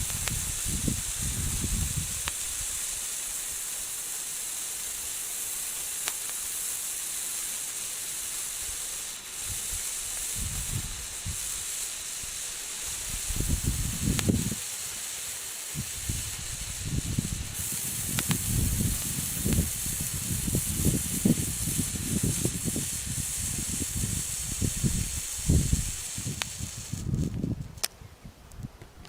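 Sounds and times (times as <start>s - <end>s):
firework fountain hissing: 0.0s - 27.6s
sharp crackles: 0.0s - 28.0s.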